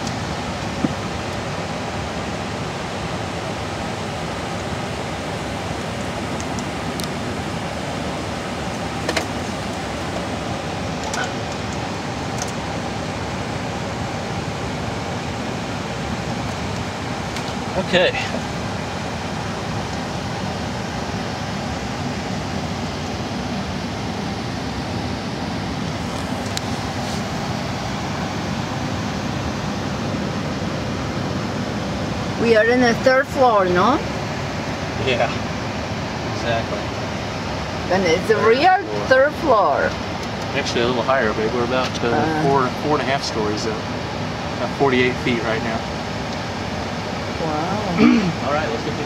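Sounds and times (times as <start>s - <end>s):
air-conditioning airflow rushing: 0.0s - 49.0s.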